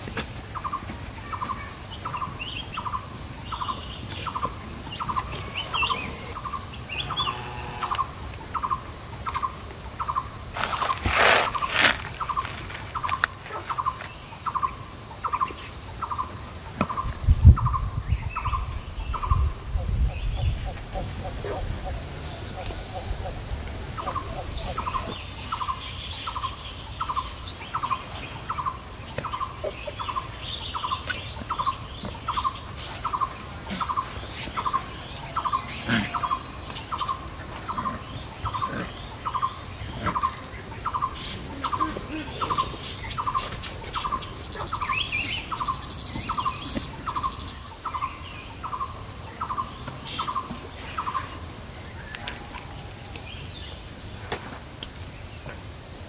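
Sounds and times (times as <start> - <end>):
birds chirping: 0.0 - 55.7
high insect drone: 0.0 - 56.0.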